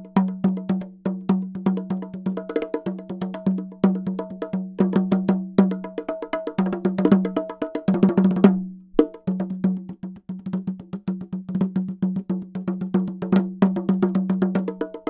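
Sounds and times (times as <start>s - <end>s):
bongos played by hand: 0.0s - 15.0s.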